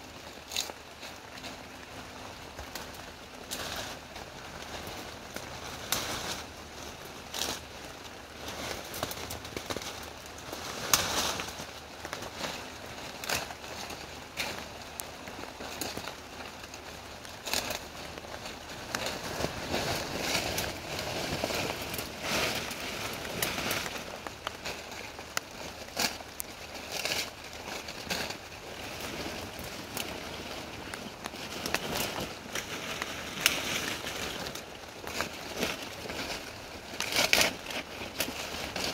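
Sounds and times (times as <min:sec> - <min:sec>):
leafy branches rustling: 0:00.0 - 0:38.9
stems crackling and snapping: 0:00.0 - 0:38.9.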